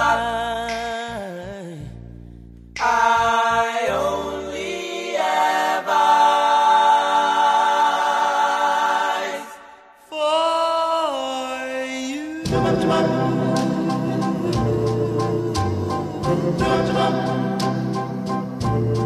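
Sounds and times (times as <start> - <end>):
layered voices singing: 2.8 - 10.3, 11.1 - 19.0.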